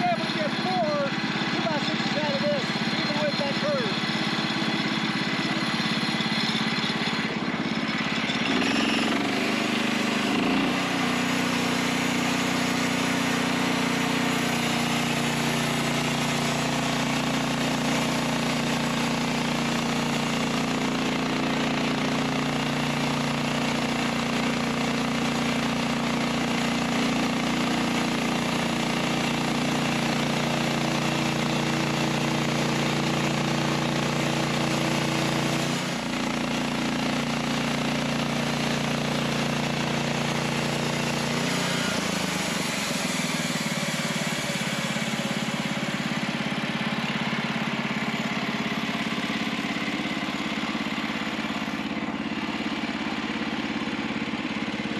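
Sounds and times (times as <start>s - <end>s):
band saw cutting log: 0.0s - 54.9s
gas engine running under load: 0.0s - 54.9s.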